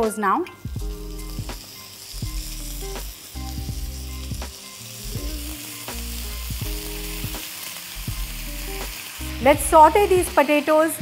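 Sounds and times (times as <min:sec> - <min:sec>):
potatoes sizzling in oil: 0:00.6 - 0:11.0.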